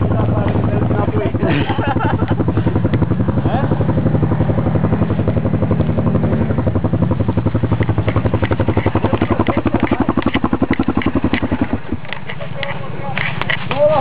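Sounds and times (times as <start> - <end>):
atv engine idling: 0.0 - 14.0.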